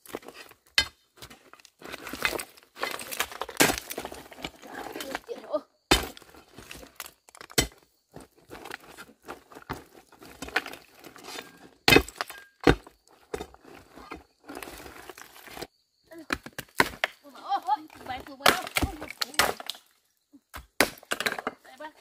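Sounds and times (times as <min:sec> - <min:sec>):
gritty scraping of stone: 0:00.0 - 0:20.1
stone slabs clinking and knocking: 0:00.1 - 0:17.2, 0:20.5 - 0:21.8.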